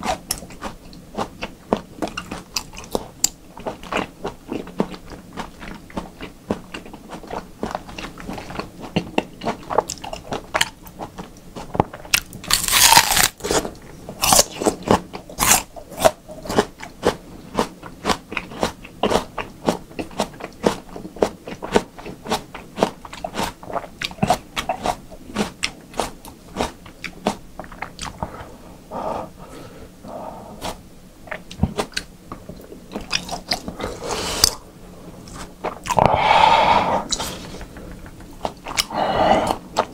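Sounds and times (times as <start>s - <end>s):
wet mouth chewing sounds: 0.0s - 13.6s, 14.2s - 28.4s, 30.6s - 34.6s, 35.3s - 36.4s, 37.0s - 39.9s.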